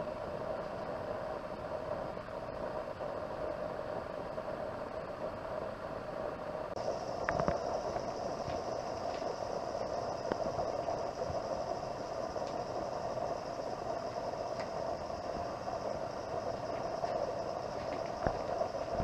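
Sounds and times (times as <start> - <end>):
continuous hum: 0.0 - 19.0
high hiss: 0.0 - 19.0.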